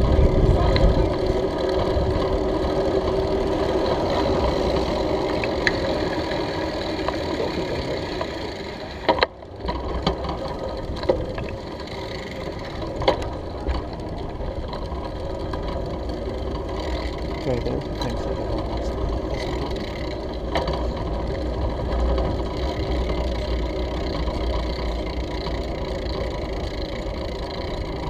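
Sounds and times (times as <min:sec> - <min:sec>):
bicycle rumbling over brick paving: 0:00.0 - 0:28.0.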